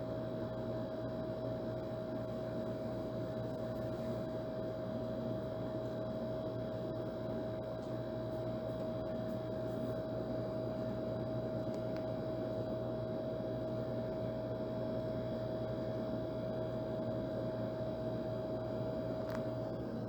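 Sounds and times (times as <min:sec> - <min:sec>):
air conditioner running: 0:00.0 - 0:20.0.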